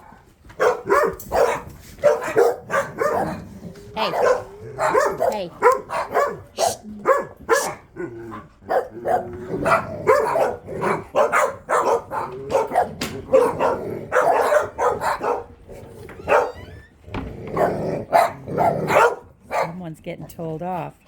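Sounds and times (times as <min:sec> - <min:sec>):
pack of dogs barking: 0:00.0 - 0:19.8.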